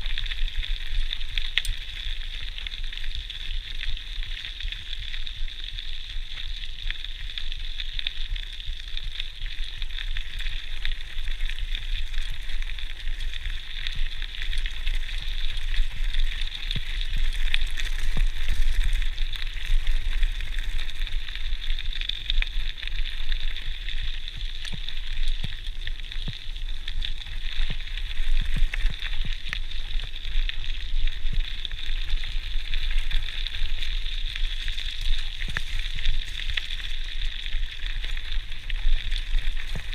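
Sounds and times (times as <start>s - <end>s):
bike tyres crunching on gravel: 0.0s - 39.9s.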